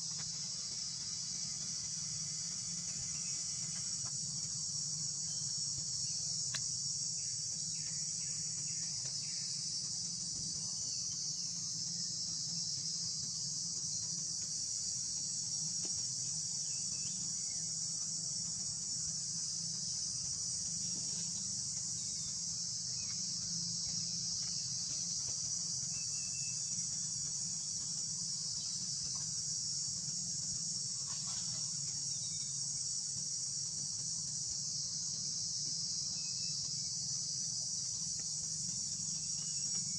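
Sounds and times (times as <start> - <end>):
high-pitched insect chorus: 0.0 - 39.9
low steady hum: 0.0 - 39.9.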